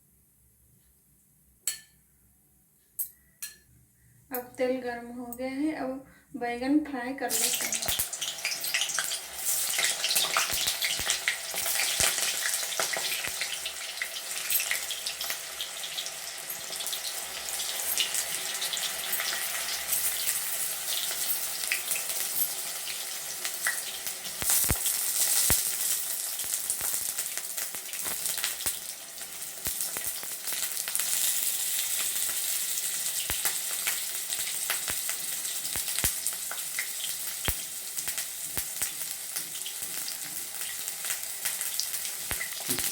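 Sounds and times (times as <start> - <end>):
eggplant sizzling in hot oil: 7.2 - 42.9.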